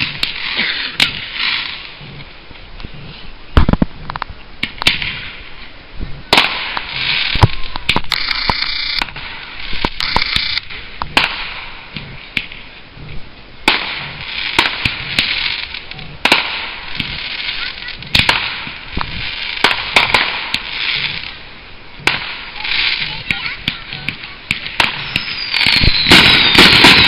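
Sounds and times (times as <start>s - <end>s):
fireworks bangs: 0.0s - 2.3s, 3.0s - 12.8s, 13.6s - 27.0s
fireworks crackling hiss: 0.0s - 27.0s.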